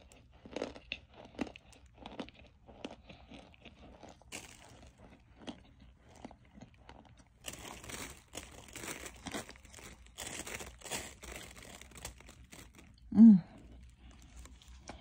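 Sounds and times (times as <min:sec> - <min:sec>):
starch chunks crunching: 0:00.0 - 0:15.0.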